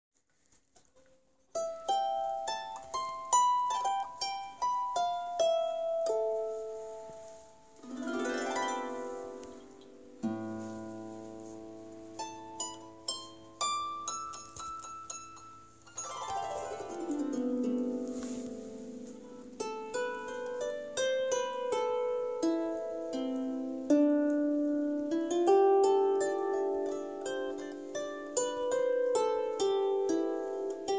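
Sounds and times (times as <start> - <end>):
harp melody: 1.5 - 30.9
harp glissando: 1.6 - 30.9.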